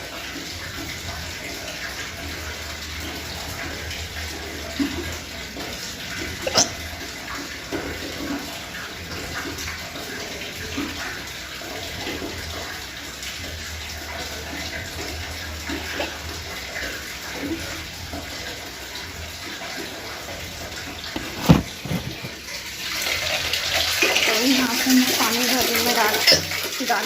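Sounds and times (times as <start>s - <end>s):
tap water running: 0.0s - 27.0s.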